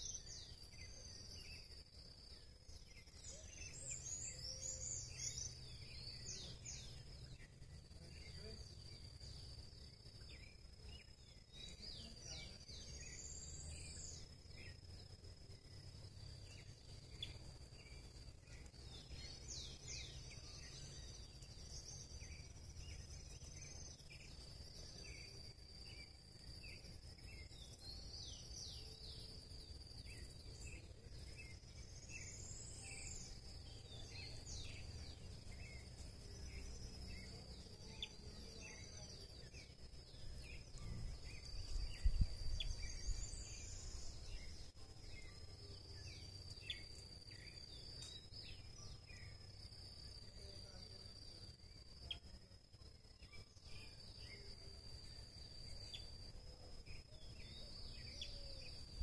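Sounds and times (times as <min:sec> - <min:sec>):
birds chirping: 0:00.0 - 0:59.0
high-pitched insect buzz: 0:00.0 - 0:59.0.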